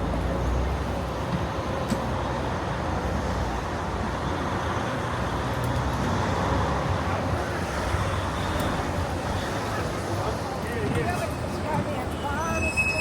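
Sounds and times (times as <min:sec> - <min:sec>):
vehicles passing with low rumble: 0:00.0 - 0:12.6.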